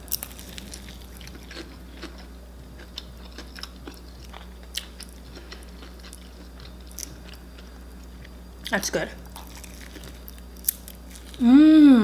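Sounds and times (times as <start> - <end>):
crunchy fried food chewing: 0.0 - 11.4.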